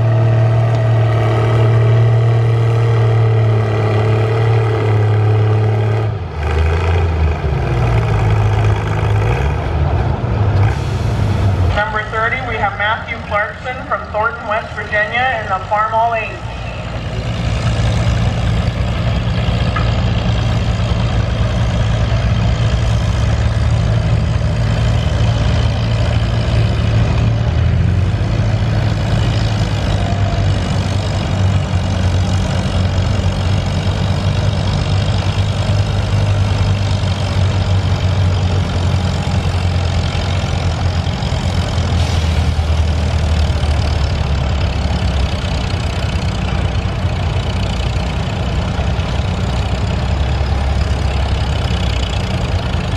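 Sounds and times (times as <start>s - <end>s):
tractor engine running under load: 0.0s - 52.9s.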